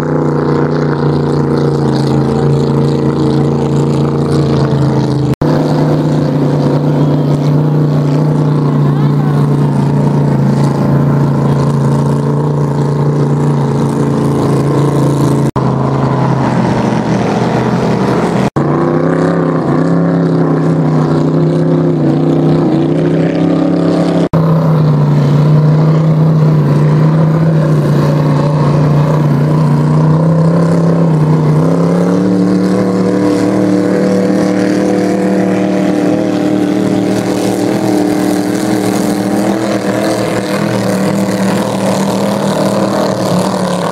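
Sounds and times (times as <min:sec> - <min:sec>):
racing boat engines roaring: 0:00.0 - 0:43.9.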